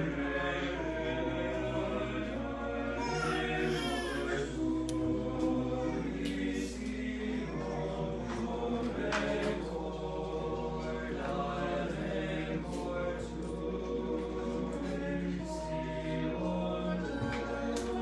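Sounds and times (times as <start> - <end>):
male choir singing: 0.0 - 18.0.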